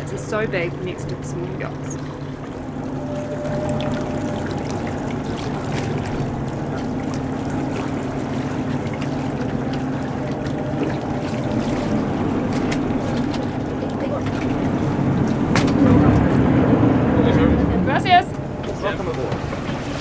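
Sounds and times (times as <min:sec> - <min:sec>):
boat engine running: 0:00.0 - 0:20.0
water washing: 0:00.0 - 0:20.0.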